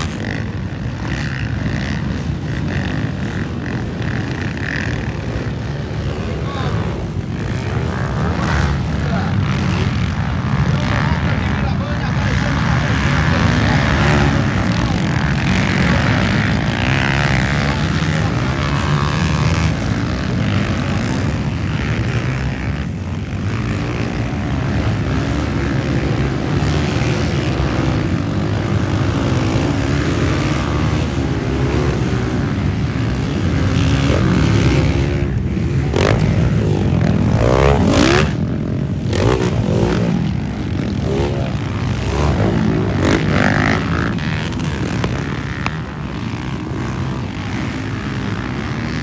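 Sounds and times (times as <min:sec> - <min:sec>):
motocross bike engines: 0:00.0 - 0:49.0.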